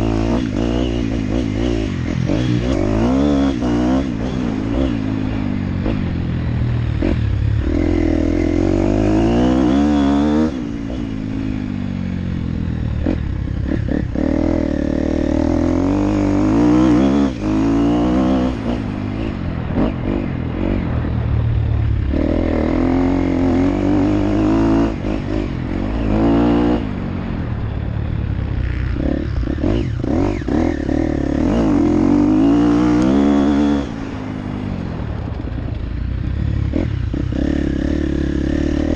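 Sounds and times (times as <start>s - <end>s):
dirt bike engine revving: 0.0s - 35.4s, 36.0s - 38.9s.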